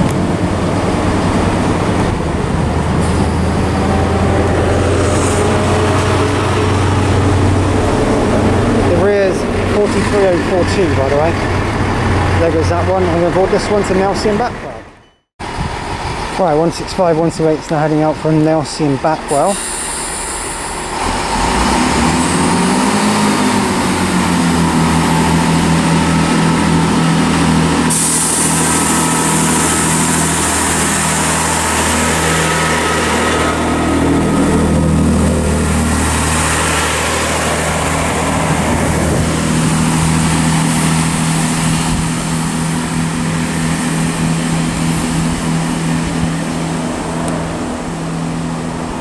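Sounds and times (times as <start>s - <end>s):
diesel train engines running: 0.0s - 49.0s.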